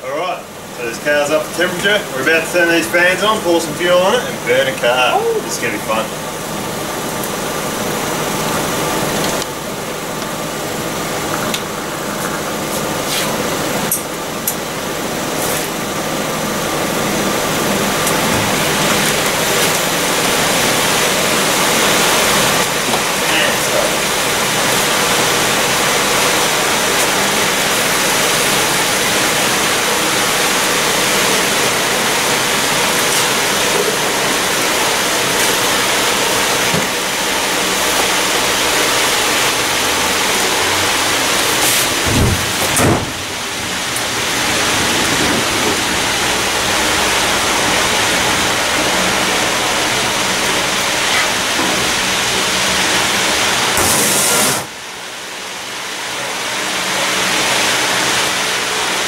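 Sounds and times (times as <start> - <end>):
fan blowing hard: 0.0 - 59.0.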